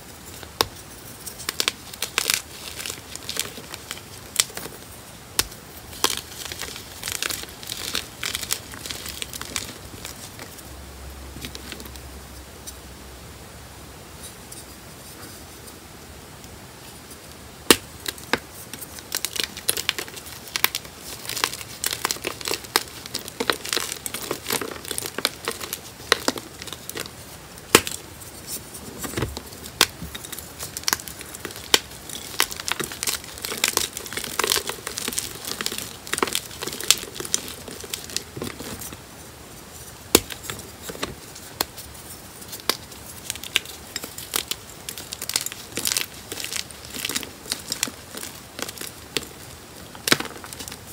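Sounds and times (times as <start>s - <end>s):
chalk crunching and cracking: 0.0s - 12.0s, 16.8s - 50.9s.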